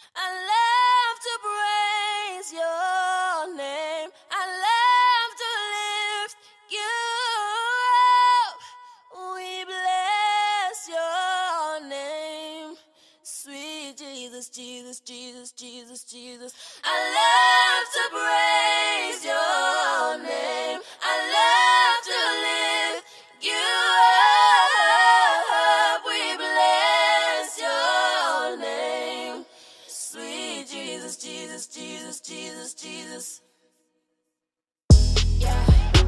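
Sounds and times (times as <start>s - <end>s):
a cappella singing: 0.0s - 33.6s, 35.4s - 36.0s.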